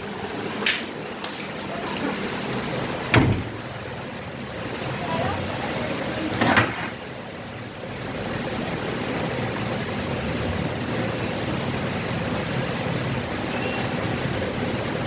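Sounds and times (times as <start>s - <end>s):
air cooler fan whooshing: 0.0s - 15.0s.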